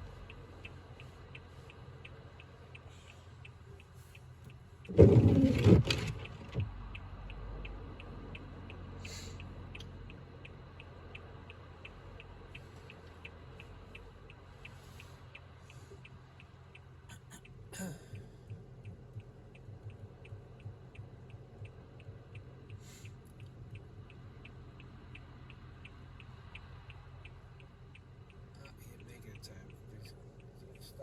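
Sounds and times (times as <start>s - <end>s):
car interior hum: 0.0s - 31.0s
turn signal ticking: 0.0s - 31.0s.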